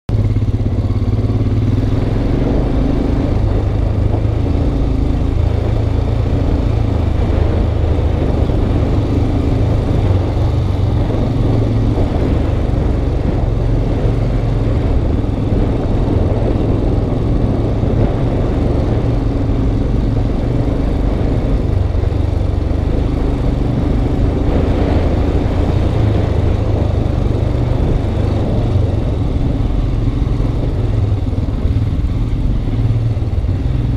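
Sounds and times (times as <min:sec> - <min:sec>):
motorcycle engine running: 0:00.1 - 0:33.9
rush of noise on gravel: 0:00.1 - 0:33.9.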